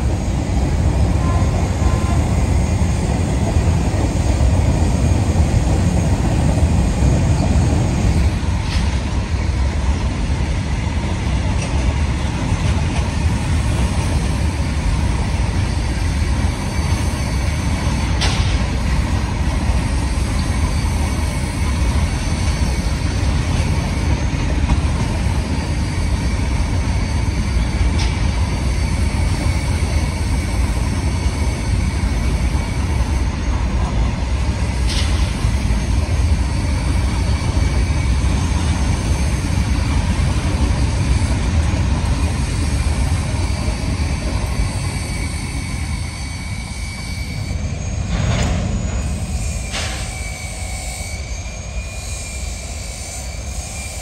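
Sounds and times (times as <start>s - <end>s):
faint high whine: 0.0s - 54.0s
freight train wheels rumbling: 0.0s - 54.0s.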